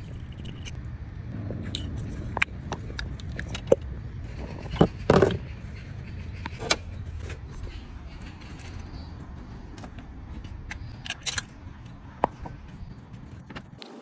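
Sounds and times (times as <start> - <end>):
metallic clicks and knocks: 0.0 - 0.8, 1.6 - 13.8
car engine running: 0.0 - 13.8.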